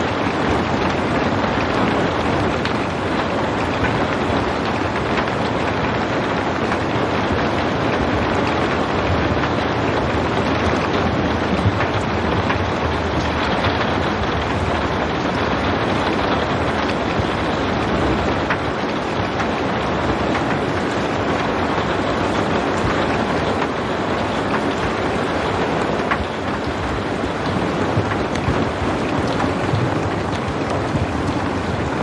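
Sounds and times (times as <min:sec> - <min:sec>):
raindrop ticks: 0:00.0 - 0:32.0
steady rainfall: 0:00.0 - 0:32.0.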